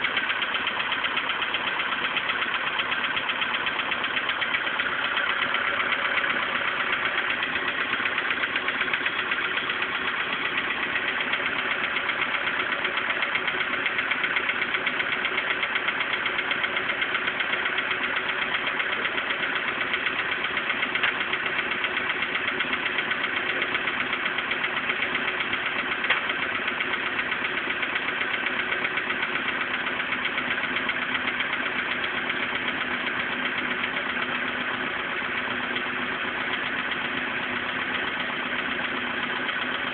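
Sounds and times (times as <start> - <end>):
petrol engine knocking: 0.0 - 39.9.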